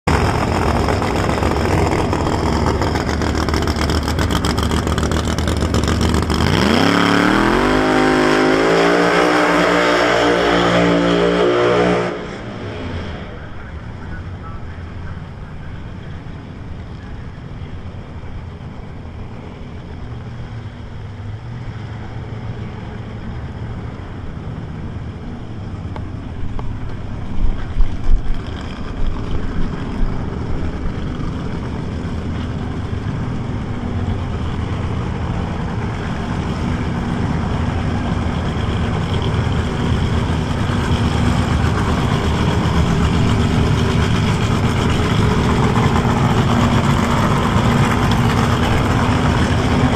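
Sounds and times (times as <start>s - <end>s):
vehicle engine running: 0.0s - 10.2s, 11.6s - 49.9s.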